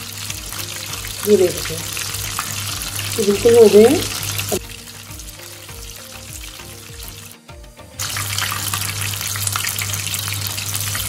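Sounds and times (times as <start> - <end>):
deep-frying sizzling and bubbling: 0.0 - 11.0.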